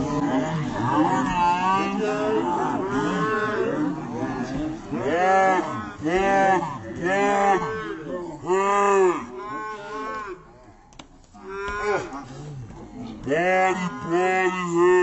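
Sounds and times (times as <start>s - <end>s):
slowed-down shouting voices: 0.0s - 10.8s, 11.4s - 15.0s.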